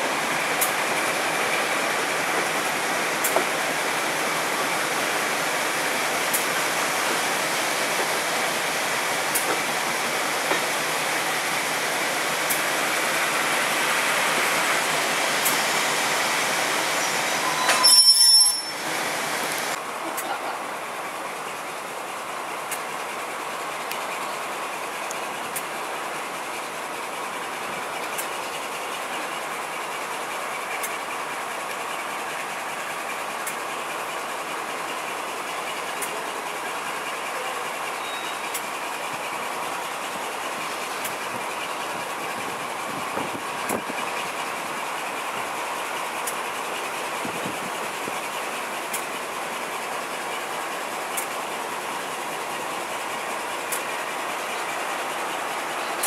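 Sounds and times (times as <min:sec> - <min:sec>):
rumble of train wheels and air: 0:00.0 - 0:56.0.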